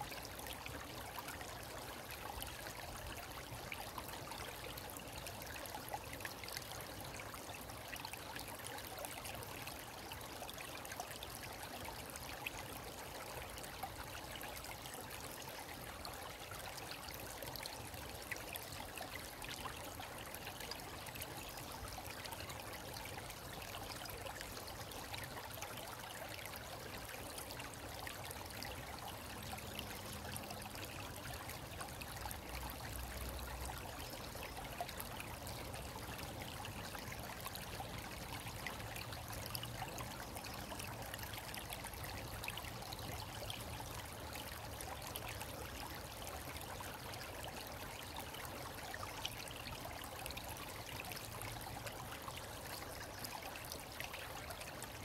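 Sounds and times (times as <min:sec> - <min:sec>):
stream trickling over pebbles: 0:00.0 - 0:55.0.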